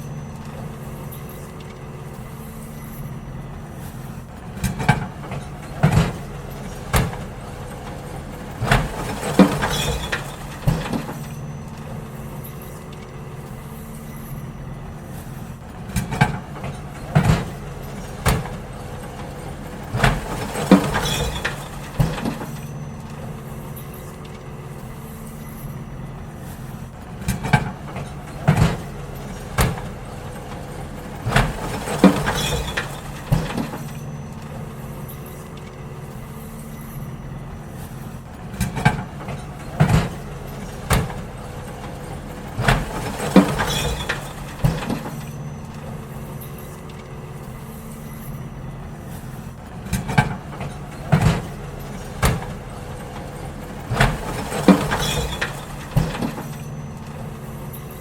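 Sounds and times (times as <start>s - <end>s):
garbage truck engine running: 0.0s - 58.0s
metallic clanks and bangs of bins: 0.0s - 58.0s.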